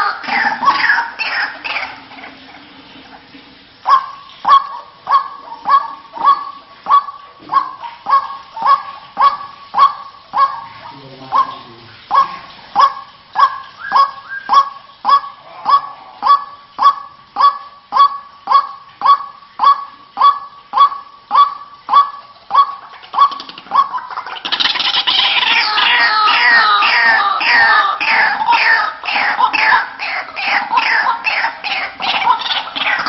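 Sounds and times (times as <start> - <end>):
waterhen call: 0.0 - 33.0.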